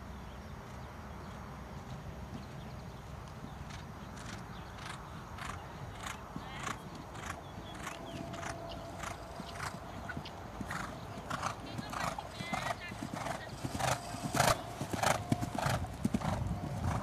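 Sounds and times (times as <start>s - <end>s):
horse cantering on sand: 0.6s - 17.0s.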